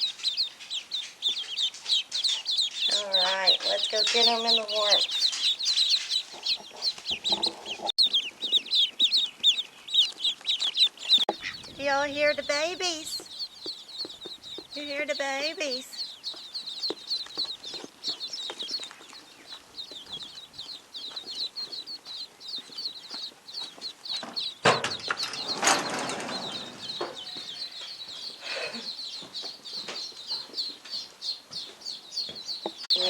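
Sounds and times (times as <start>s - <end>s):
rustling: 0.0s - 28.4s
ducklings peeping: 0.0s - 33.0s.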